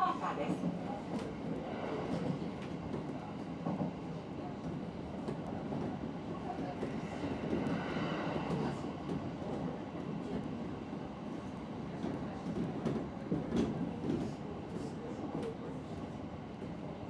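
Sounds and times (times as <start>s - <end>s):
train wheels rolling on rails: 0.3s - 16.8s.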